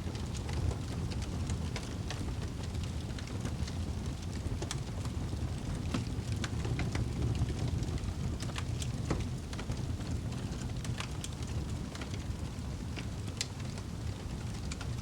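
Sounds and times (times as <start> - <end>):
fire crackling and popping: 0.0 - 15.0
low rush of flames: 0.0 - 15.0.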